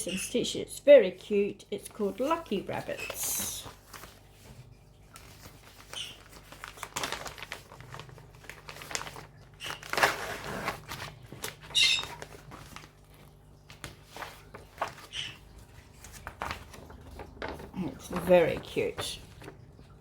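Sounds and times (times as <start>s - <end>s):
plastic packaging crinkling: 2.0s - 20.0s.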